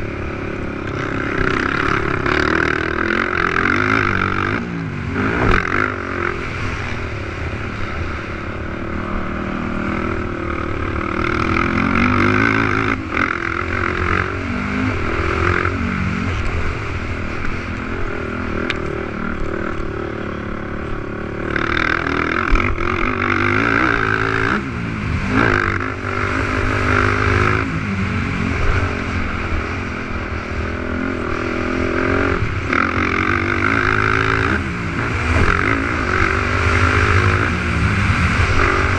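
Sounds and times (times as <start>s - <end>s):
quad engines revving: 0.0s - 7.1s, 7.9s - 29.7s, 30.5s - 38.9s.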